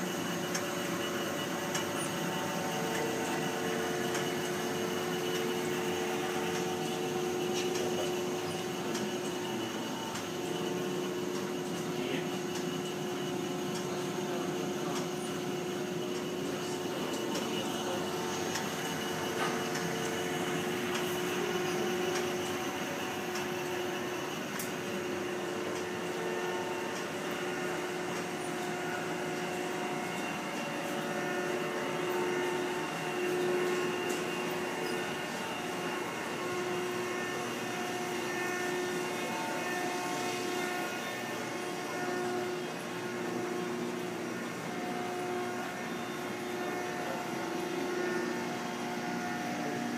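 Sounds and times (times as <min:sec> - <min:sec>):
machinery humming: 0:00.0 - 0:49.9.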